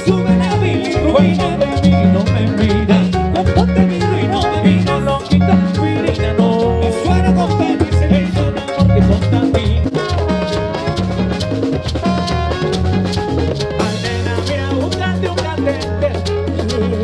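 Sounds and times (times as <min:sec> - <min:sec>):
bass line: 0:00.0 - 0:17.0
congas: 0:00.0 - 0:17.0
live salsa band playing: 0:00.0 - 0:17.0
maracas: 0:00.0 - 0:17.0.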